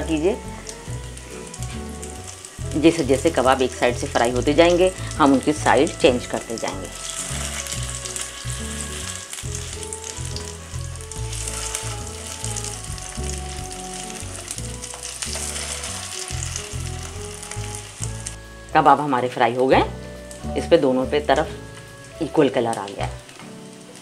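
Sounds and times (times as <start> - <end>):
low background music: 0.0 - 24.0
oil sizzling and crackling: 0.0 - 24.0.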